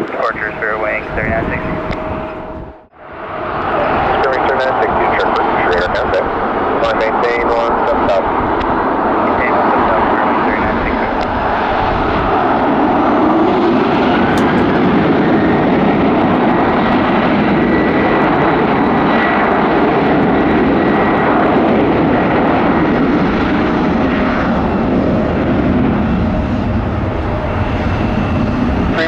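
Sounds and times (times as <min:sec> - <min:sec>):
jet engines at takeoff: 0:00.0 - 0:29.0.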